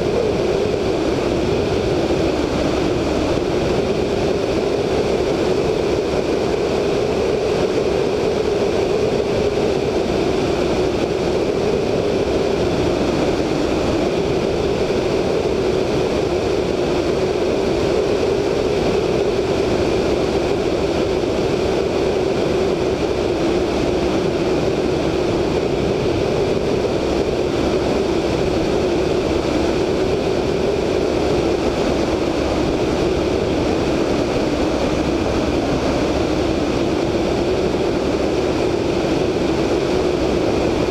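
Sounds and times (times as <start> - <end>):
airflow rushing over microphone: 0.0 - 40.9
radial engine droning: 0.0 - 40.9.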